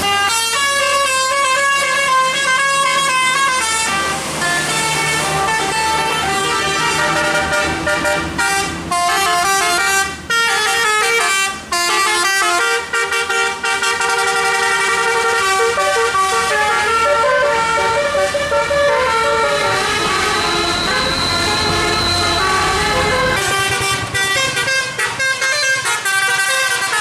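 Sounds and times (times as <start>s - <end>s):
musical air horn playing tune: 0.0s - 27.0s.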